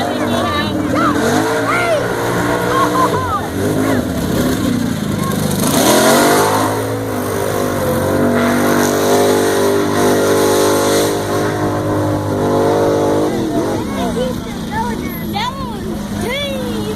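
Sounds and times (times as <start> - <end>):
engine revving hard: 0.0 - 16.9.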